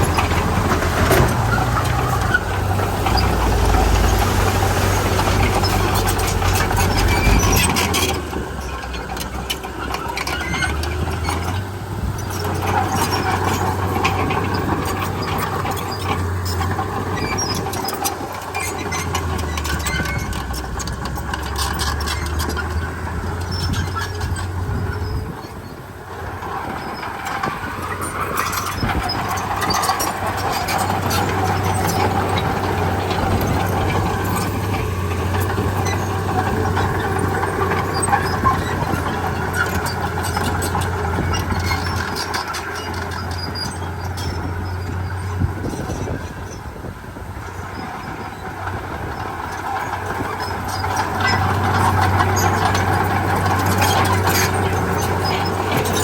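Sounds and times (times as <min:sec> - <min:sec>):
bulldozer diesel engine under load: 0:00.0 - 0:56.0
steel tracks clanking: 0:00.0 - 0:56.0.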